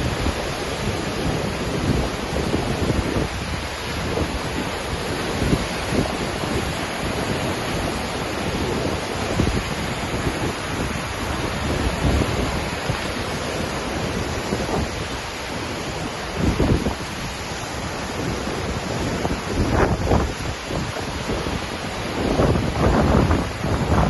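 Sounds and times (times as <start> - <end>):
waterfall rushing: 0.0 - 24.0
wind gusting on microphone: 0.0 - 24.0.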